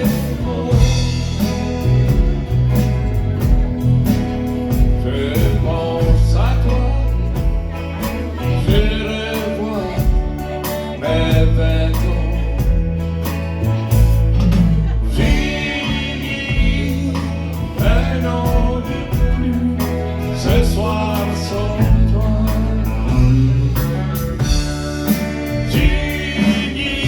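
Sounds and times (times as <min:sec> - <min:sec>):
bass line: 0:00.0 - 0:27.0
drums and cymbals: 0:00.0 - 0:27.0
held melody line: 0:00.0 - 0:27.0
live band playing: 0:00.0 - 0:27.0.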